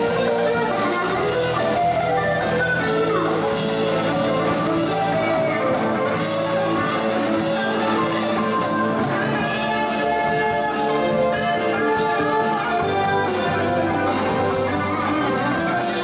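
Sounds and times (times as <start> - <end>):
drum kit: 0.0 - 16.0
electric bass: 0.0 - 16.0
electric guitar: 0.0 - 16.0
keyboard: 0.0 - 16.0.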